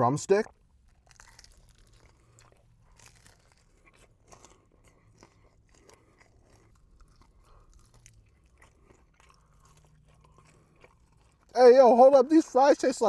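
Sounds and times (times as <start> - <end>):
chewing crispy fried food: 0.0 - 13.0.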